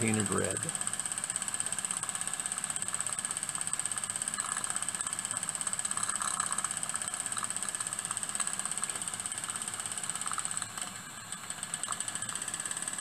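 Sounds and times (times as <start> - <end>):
model steam engine running fast: 0.0 - 13.0.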